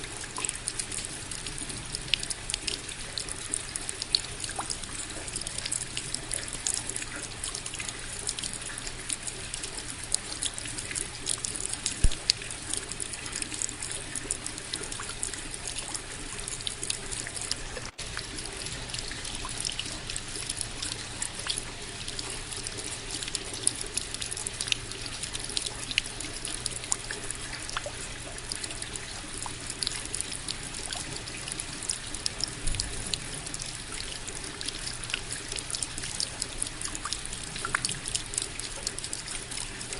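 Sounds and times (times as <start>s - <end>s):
raindrops ticking: 0.0s - 39.9s
trickle of water: 0.0s - 39.9s.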